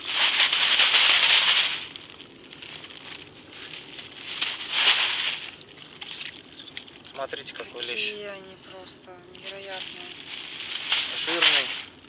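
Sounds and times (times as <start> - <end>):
wire-mesh net crinkling: 0.0 - 8.1, 9.4 - 12.0.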